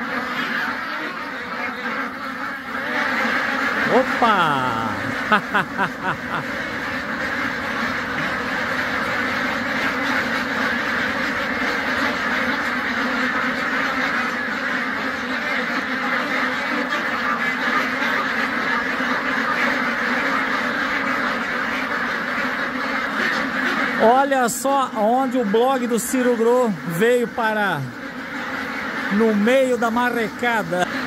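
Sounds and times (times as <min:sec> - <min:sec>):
ducks quacking: 0:00.0 - 0:31.0.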